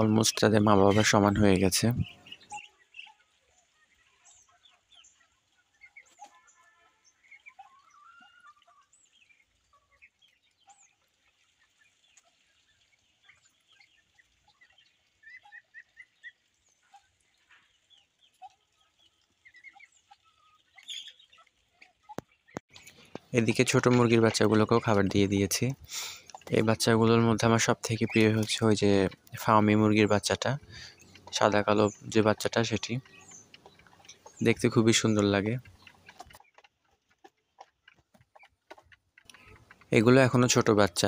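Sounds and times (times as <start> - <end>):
chirps: 0.0 - 41.0
poultry clucking and peeping: 0.0 - 41.0.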